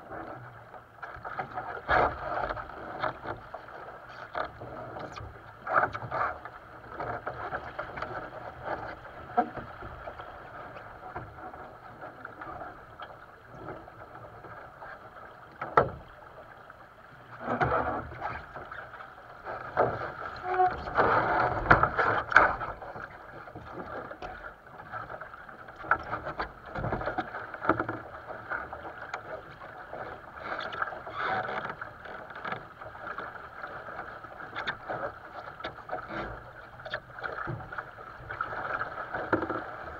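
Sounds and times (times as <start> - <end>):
water splashing along a boat hull: 0.0 - 39.9.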